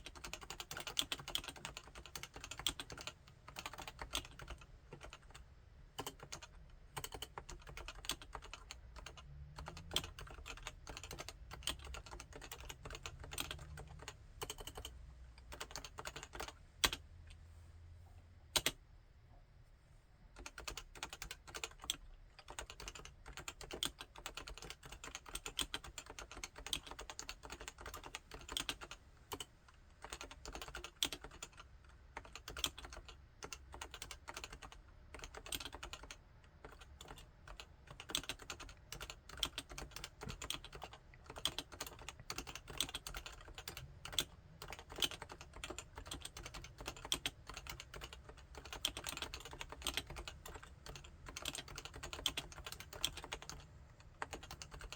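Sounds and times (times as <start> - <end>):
keyboard typing: 0.0 - 5.4, 6.0 - 17.0, 18.6 - 18.8, 20.4 - 54.9.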